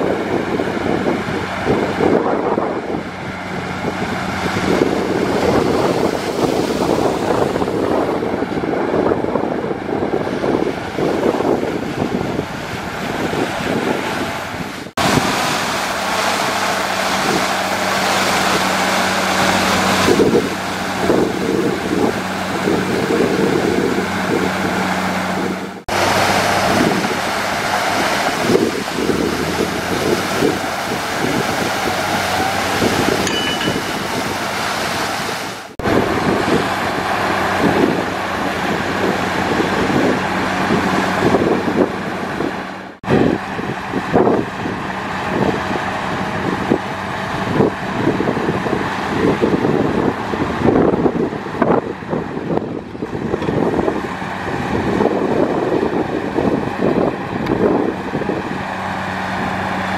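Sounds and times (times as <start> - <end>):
heavy diesel machinery running: 0.0 - 59.9
wind buffeting microphone: 0.0 - 59.9.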